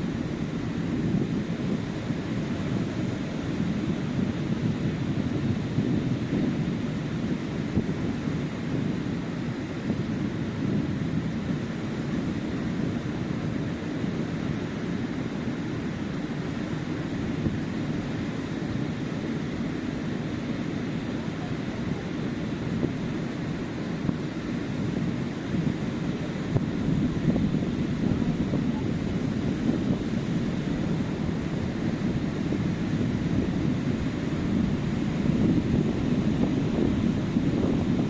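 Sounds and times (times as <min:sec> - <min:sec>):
surf washing onto beach: 0:00.0 - 0:38.0
wind rumbling on microphone: 0:00.0 - 0:38.0.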